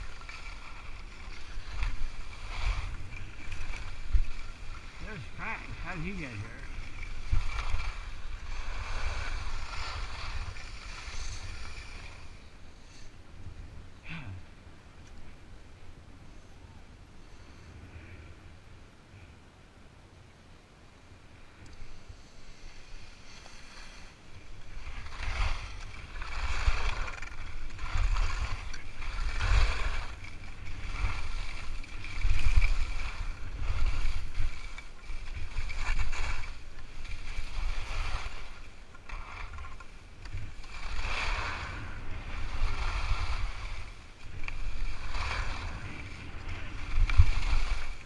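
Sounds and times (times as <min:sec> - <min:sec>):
skis scraping over snow: 0:00.0 - 0:13.1, 0:21.8 - 0:48.0
wind rumbling on microphone: 0:00.0 - 0:19.0, 0:21.2 - 0:48.0.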